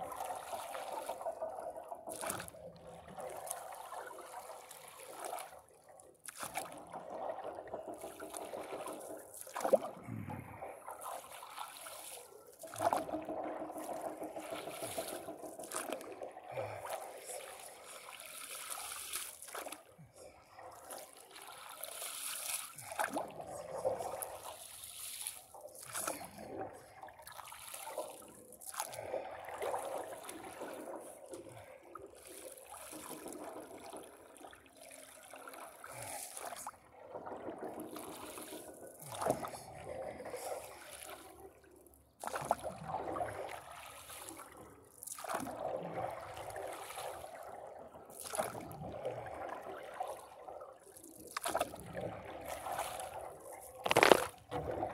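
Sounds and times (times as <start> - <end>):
paddle splashing through water: 0.0 - 20.0, 20.6 - 41.4, 42.2 - 54.9
water sloshing against board: 0.0 - 54.9.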